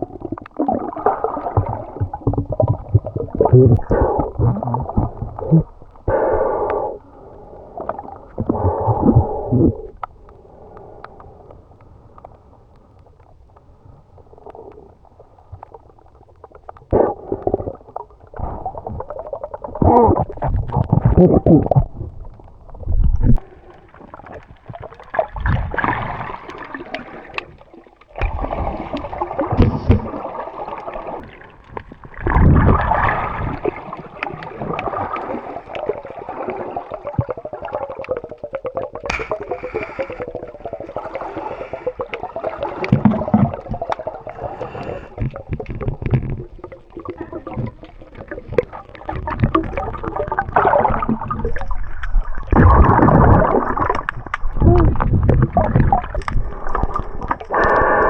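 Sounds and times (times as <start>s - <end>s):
crackle of small bubbles: 0.0s - 58.0s
underwater gurgling and bubbling: 0.0s - 58.0s.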